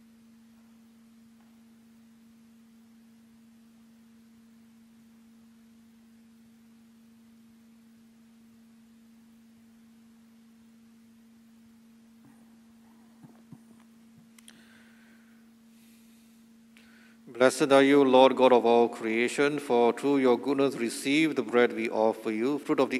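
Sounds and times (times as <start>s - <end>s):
faint low hum: 0.0s - 22.9s.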